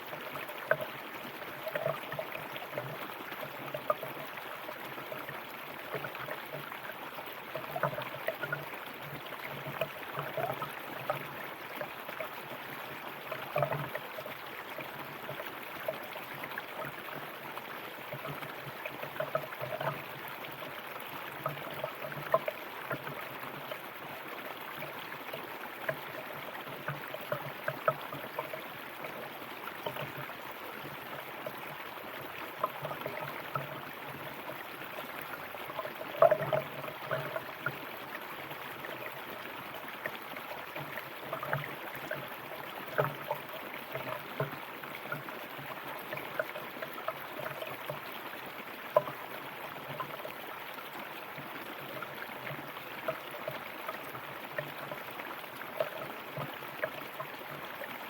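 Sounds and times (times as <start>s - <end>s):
river water over stones: 0.0s - 58.0s
water splashes and gurgles: 0.0s - 58.0s.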